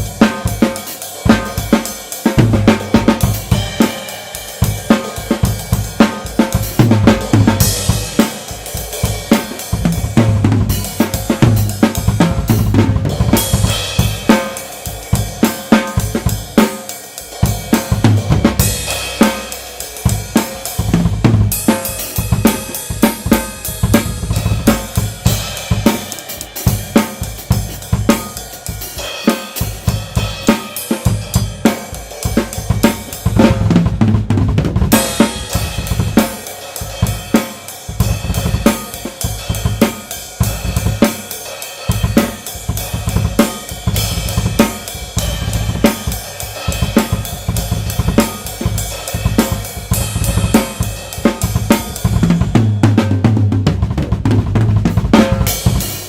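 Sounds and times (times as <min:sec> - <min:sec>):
cymbals: 0:00.0 - 0:33.9, 0:34.9 - 0:53.2, 0:55.0 - 0:56.0
snare drum: 0:00.0 - 0:56.0.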